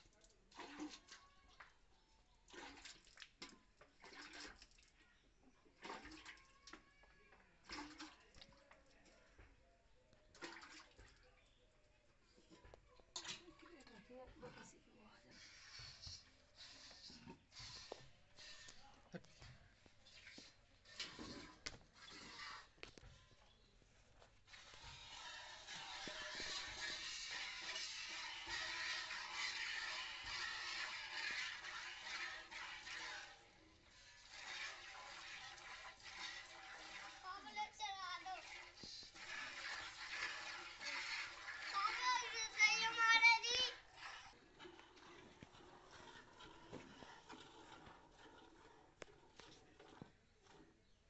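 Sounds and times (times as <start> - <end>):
milk squirting into a pail: 0.0 - 9.3, 10.2 - 11.6, 12.4 - 51.0.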